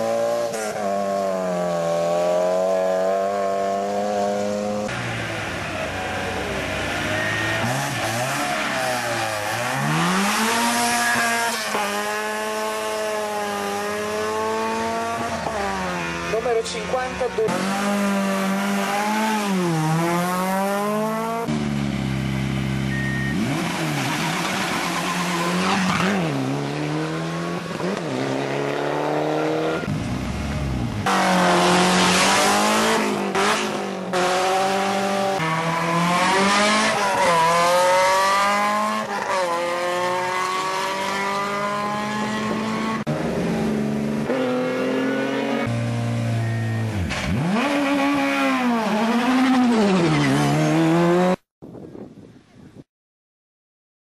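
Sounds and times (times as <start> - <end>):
race car engines revving: 0.0 - 51.4.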